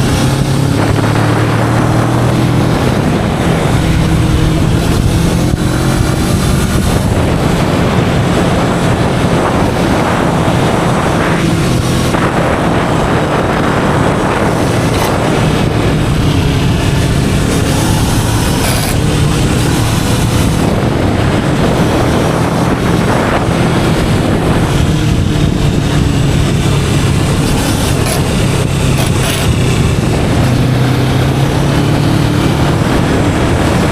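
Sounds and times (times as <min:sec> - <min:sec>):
motorcycle engine running: 0:00.0 - 0:33.9
wind buffeting microphone: 0:00.0 - 0:33.9.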